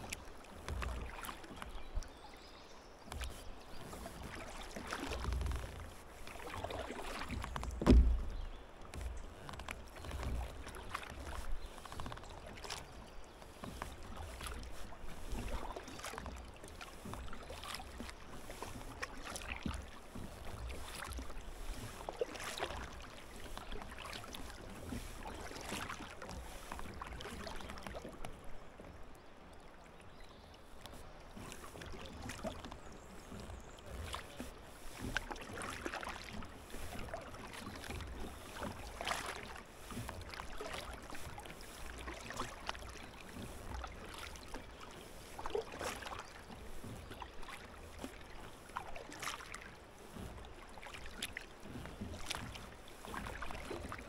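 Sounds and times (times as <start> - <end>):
kayak paddle splashing: 0.0 - 54.0
water trickling along hull: 0.0 - 54.0.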